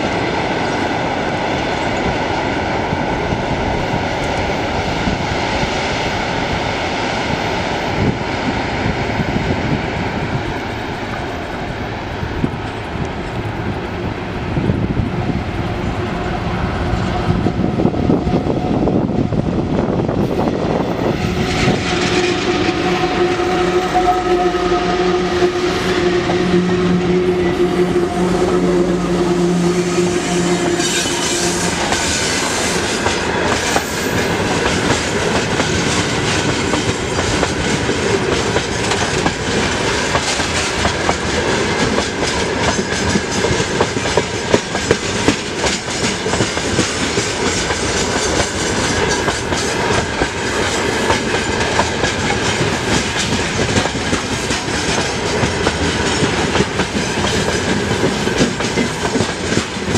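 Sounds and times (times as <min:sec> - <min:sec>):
electric locomotive hum: 0:00.0 - 0:59.9
freight train rolling past: 0:00.0 - 0:59.9.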